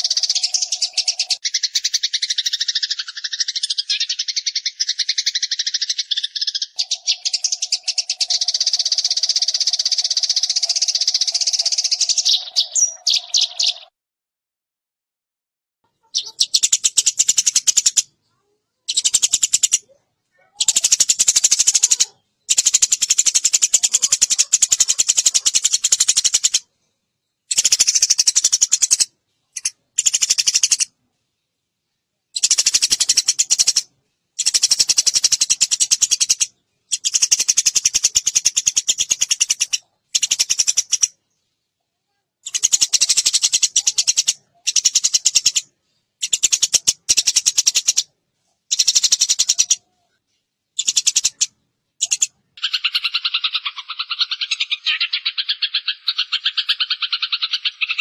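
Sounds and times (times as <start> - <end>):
sparrow chirping rapidly: 0.0 - 13.9, 16.0 - 26.7, 27.4 - 31.0, 32.3 - 41.2, 42.4 - 48.1, 48.7 - 49.9, 50.7 - 58.0.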